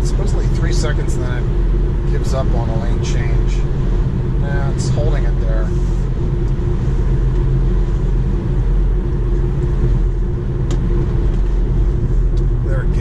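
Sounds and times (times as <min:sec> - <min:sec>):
wind rushing past car: 0:00.0 - 0:13.0.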